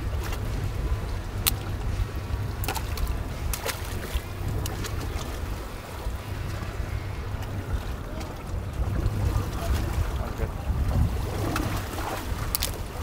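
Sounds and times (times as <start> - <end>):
low boat rumble: 0.0 - 13.0.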